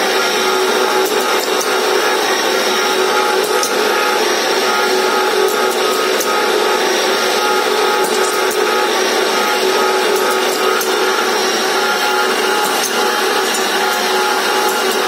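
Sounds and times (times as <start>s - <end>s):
machine humming with whine: 0.0s - 15.0s.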